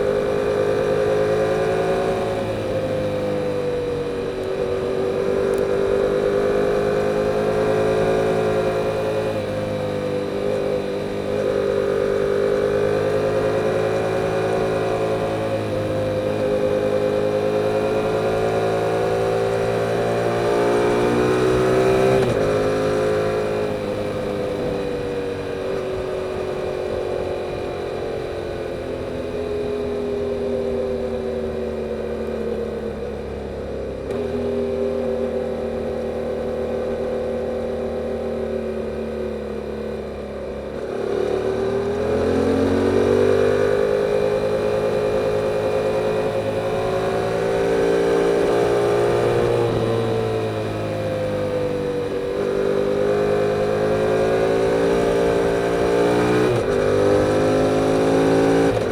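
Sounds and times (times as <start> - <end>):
motorcycle engine while riding: 0.0 - 58.9.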